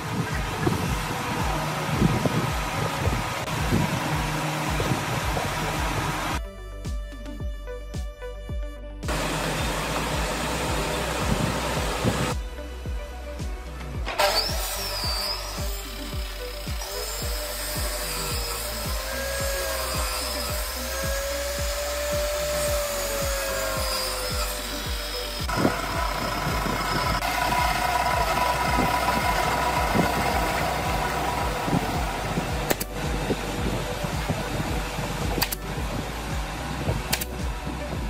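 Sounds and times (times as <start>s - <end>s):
miter saw cutting wood: 0.0s - 6.4s, 9.1s - 12.4s, 14.0s - 37.9s
background music with steady beat: 0.0s - 38.0s.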